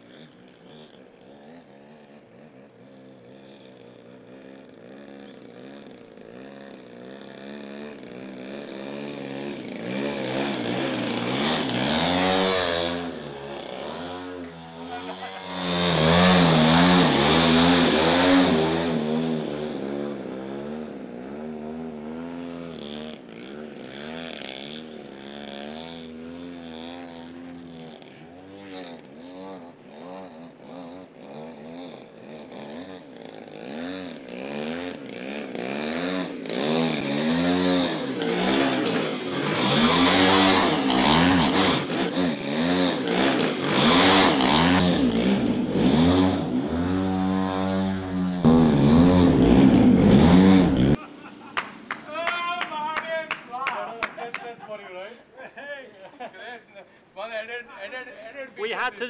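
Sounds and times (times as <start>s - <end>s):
model plane petrol engine swooping: 0.0s - 51.0s.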